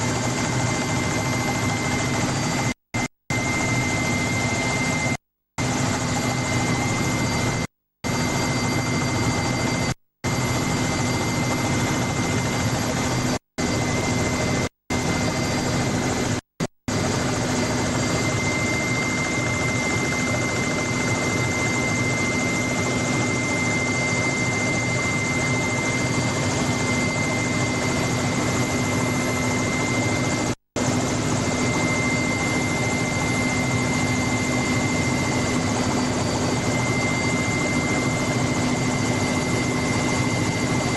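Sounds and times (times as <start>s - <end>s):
helicopter high whine: 0.0s - 40.9s
helicopter rotor and engine noise: 0.0s - 40.9s.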